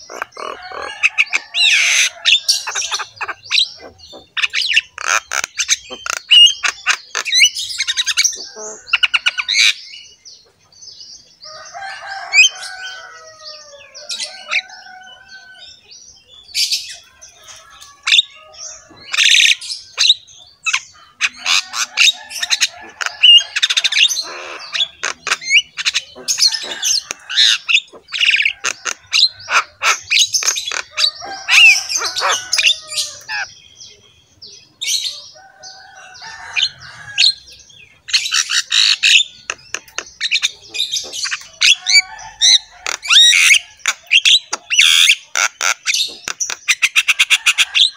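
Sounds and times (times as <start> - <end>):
birds chirping and squawking: 0.0 - 47.9.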